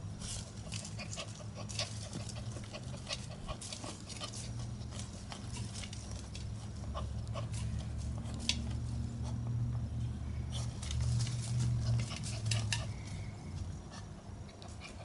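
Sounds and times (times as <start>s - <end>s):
puppy paws scratching soil: 0.0s - 15.0s
steady low hum: 0.0s - 15.0s.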